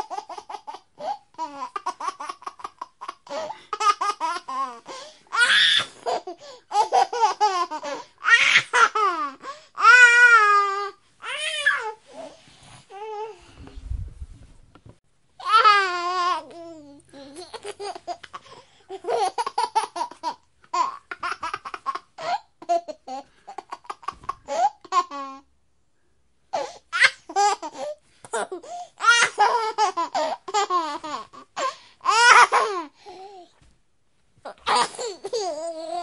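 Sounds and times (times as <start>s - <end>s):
baby laughing: 0.0s - 11.9s, 15.4s - 25.4s, 26.6s - 32.9s, 34.5s - 36.0s.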